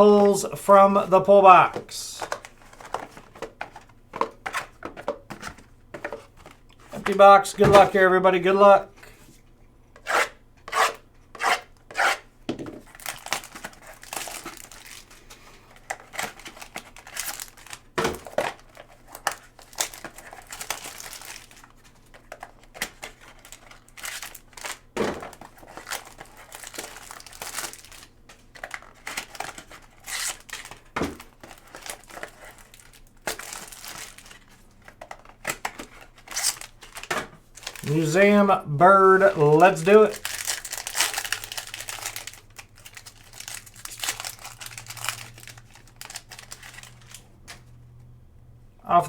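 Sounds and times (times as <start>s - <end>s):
card pack wrappers crinkling and tearing: 1.5s - 8.0s, 12.8s - 47.7s.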